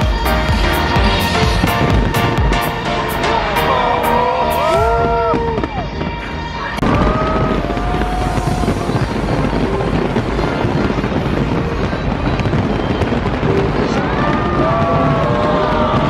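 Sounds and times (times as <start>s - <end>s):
music: 0.0s - 14.6s
fireworks bursting: 0.0s - 16.0s.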